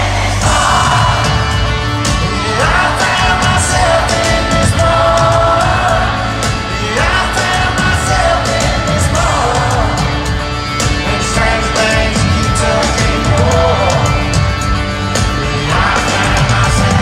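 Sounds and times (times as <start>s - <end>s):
male singer: 0.0s - 14.6s, 15.2s - 17.0s
crowd yelling and whooping: 0.0s - 17.0s
live country music over pa: 0.0s - 17.0s.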